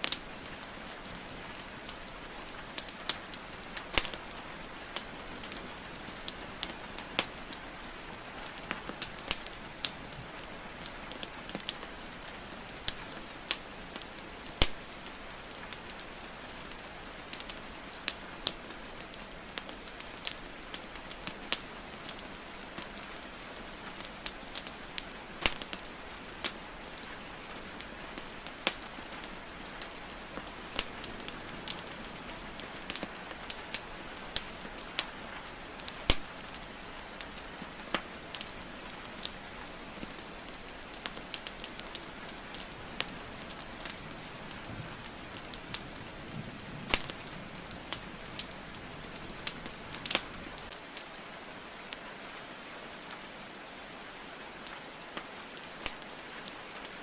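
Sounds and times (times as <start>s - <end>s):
falling rain hiss: 0.0s - 57.0s
wood fire crackling: 0.0s - 57.0s.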